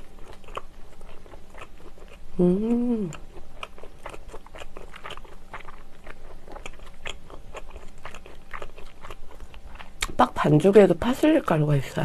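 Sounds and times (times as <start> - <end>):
chewing and biting bread: 0.0 - 10.2.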